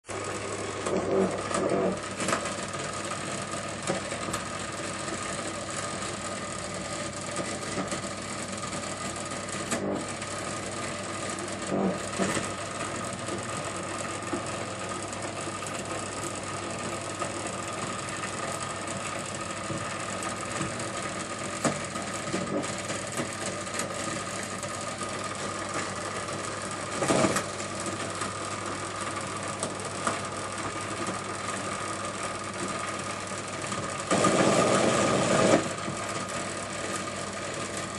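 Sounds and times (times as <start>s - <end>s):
washing machine whining and rattling: 0.0s - 37.9s.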